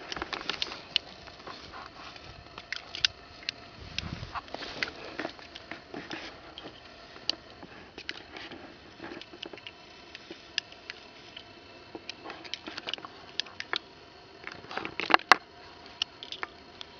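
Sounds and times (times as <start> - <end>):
revolver metallic clicks and rattles: 2.1 - 16.9.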